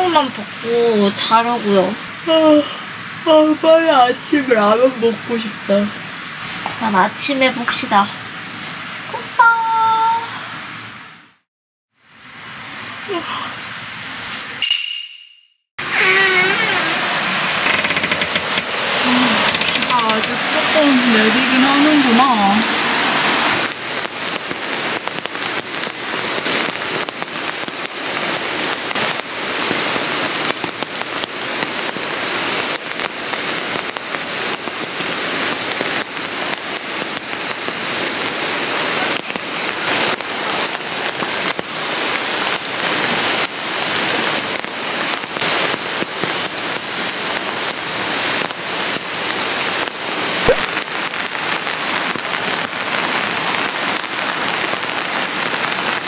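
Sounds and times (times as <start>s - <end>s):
rain falling: 0.0s - 11.2s, 12.0s - 14.6s, 15.8s - 56.0s.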